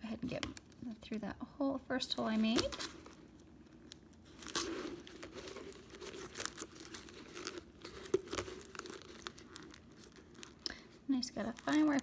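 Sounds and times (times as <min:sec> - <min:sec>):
vent duct crinkling: 0:00.0 - 0:12.0.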